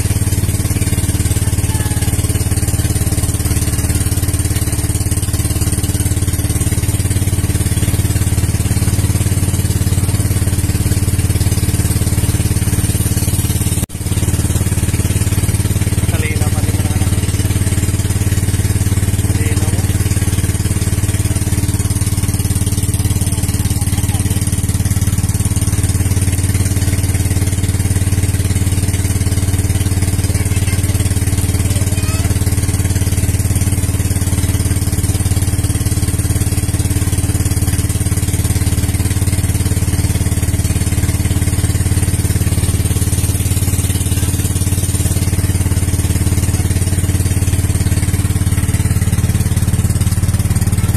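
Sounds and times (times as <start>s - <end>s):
boat engine running steadily: 0.0s - 50.9s.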